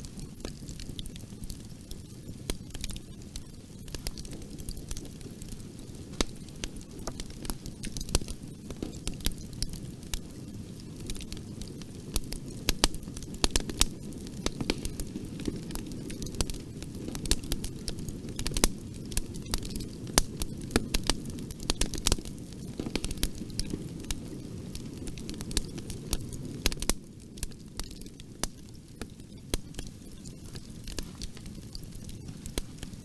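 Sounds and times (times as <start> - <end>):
fire crackling in a fireplace: 0.0 - 33.0.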